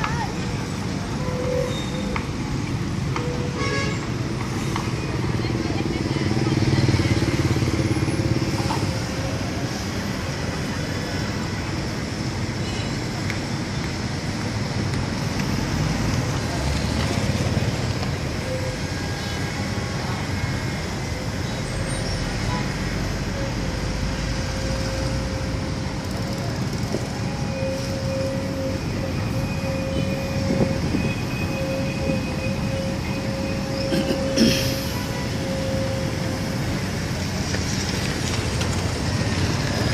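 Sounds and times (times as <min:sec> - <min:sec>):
construction engines rumbling: 0:00.0 - 0:39.9
street traffic noise: 0:00.0 - 0:39.9.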